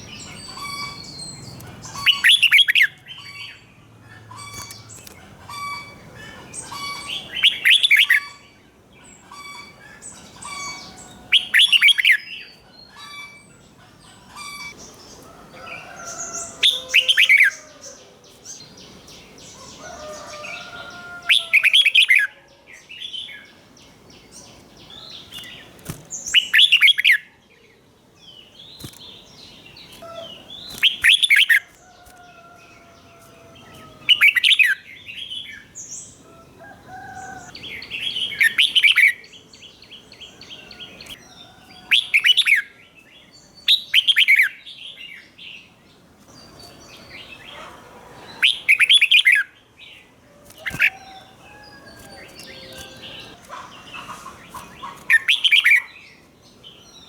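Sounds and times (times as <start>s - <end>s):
soft bird chirps and calls: 0.0s - 57.0s.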